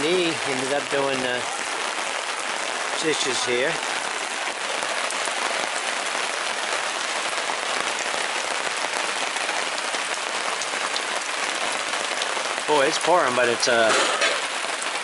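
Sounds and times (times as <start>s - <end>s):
heavy rain on a tarp: 0.0s - 15.0s.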